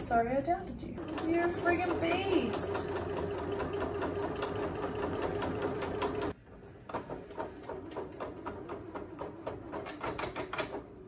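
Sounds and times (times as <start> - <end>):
sewing machine stitching: 1.0 - 11.0.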